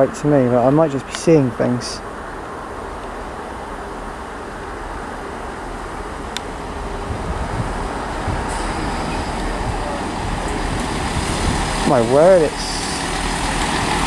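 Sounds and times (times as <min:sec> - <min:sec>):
high hiss: 0:00.0 - 0:14.0
train engine and wheel rumble: 0:00.0 - 0:14.0.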